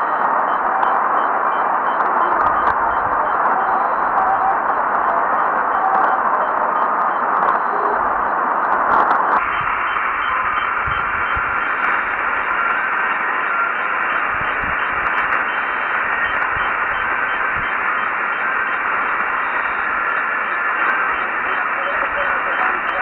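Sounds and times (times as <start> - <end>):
shortwave radio static and hiss: 0.0 - 23.0.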